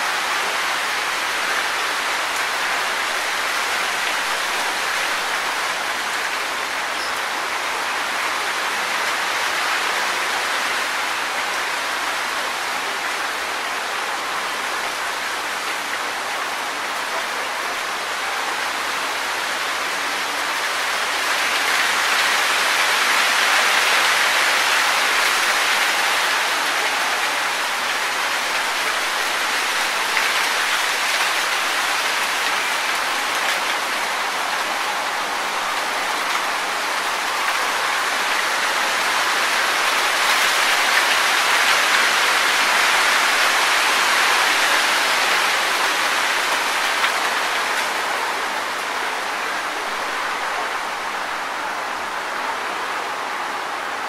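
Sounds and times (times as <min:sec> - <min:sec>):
wind rustling tree leaves: 0:00.0 - 0:54.0.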